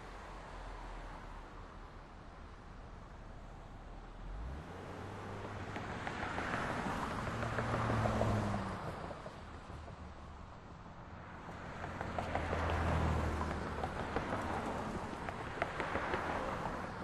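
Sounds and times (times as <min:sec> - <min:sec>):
background traffic noise: 0:00.0 - 0:17.0.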